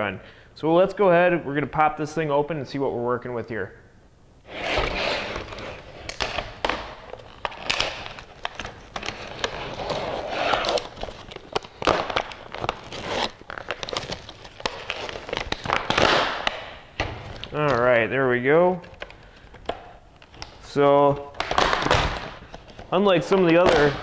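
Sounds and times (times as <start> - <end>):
plastic blister pack crackling: 4.5 - 24.0.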